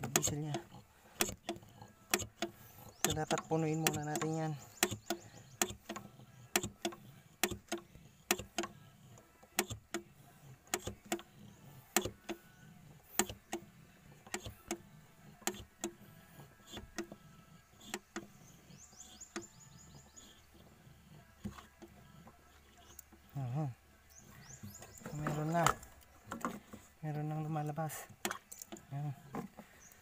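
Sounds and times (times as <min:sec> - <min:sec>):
hand priming pump clicking: 0:00.0 - 0:23.4, 0:24.2 - 0:30.0.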